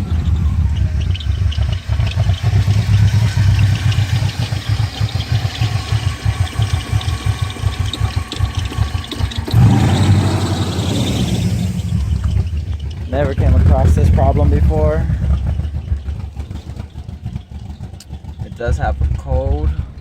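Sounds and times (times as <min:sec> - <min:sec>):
engine idling roughly with misfire: 0:00.0 - 0:20.0.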